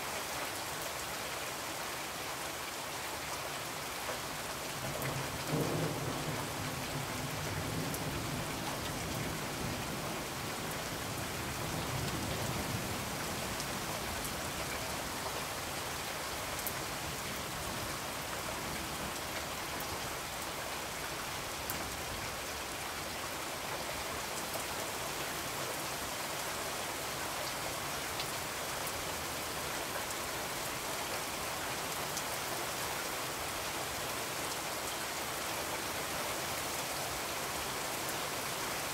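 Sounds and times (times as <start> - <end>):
steady hiss like rain: 0.0 - 38.9.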